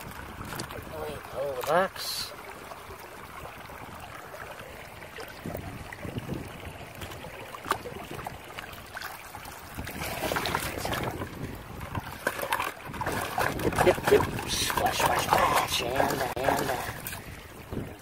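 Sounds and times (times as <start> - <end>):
stream water splashing: 0.0 - 18.0.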